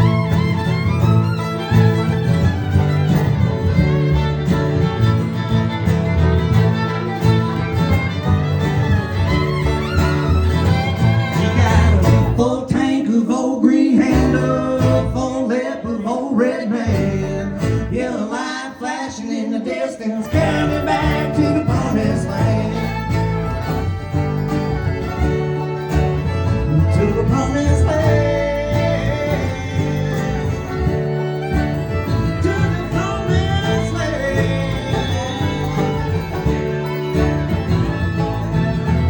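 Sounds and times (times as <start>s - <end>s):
fiddle: 0.0s - 12.5s, 20.2s - 39.0s
bluegrass band instrumental: 0.0s - 12.7s, 14.0s - 15.4s, 16.8s - 18.2s, 20.2s - 39.0s
bass: 0.0s - 13.1s, 13.9s - 15.4s, 16.8s - 18.1s, 20.3s - 39.0s.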